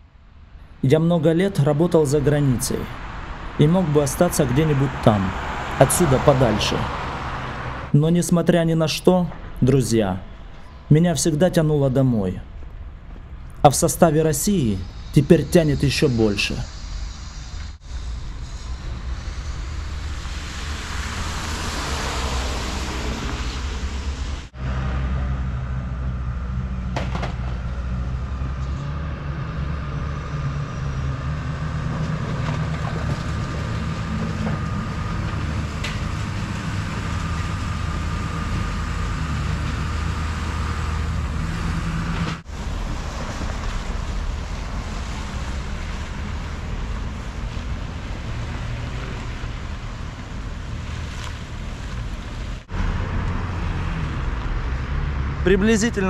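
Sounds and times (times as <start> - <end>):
diesel engine droning: 0.0 - 56.0
street traffic: 0.0 - 56.0.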